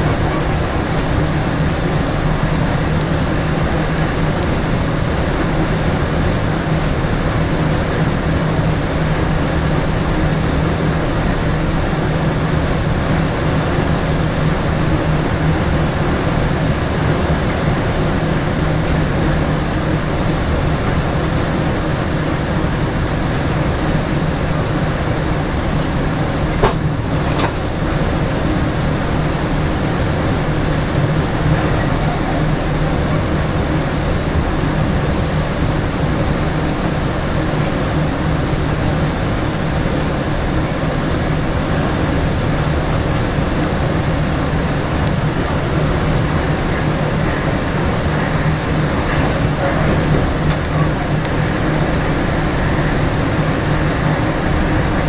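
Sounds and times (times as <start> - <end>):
electric train running on track: 0.0 - 55.0.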